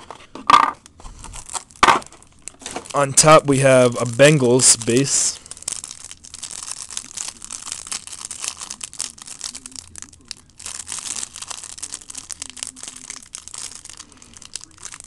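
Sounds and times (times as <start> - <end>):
wrapper crinkling and tearing: 0.8 - 15.0.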